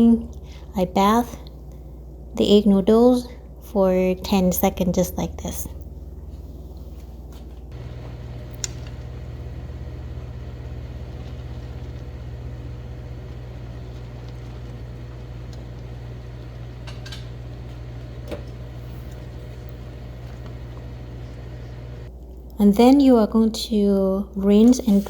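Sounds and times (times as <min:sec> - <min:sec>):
low machine hum: 0:00.0 - 0:22.4.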